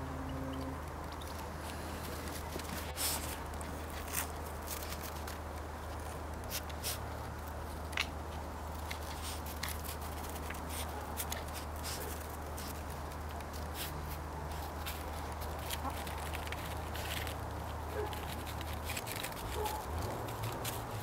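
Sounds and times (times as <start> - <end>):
hens pecking in snow: 0.9 - 21.0.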